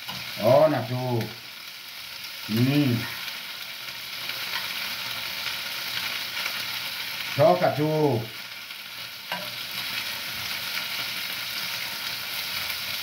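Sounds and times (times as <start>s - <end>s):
liver sizzling in frying pan: 0.0s - 13.0s.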